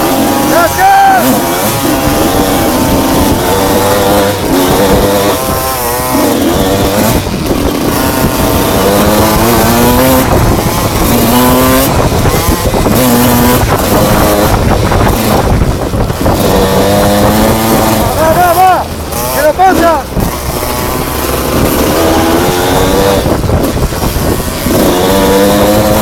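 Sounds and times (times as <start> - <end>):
motorcycle engine revving: 0.0 - 26.0
wind and terrain noise: 0.0 - 26.0.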